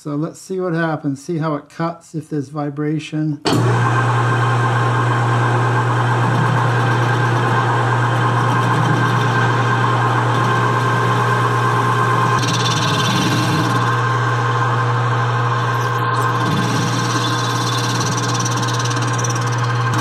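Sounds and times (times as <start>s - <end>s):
lathe motor hum and whine: 3.5s - 20.0s.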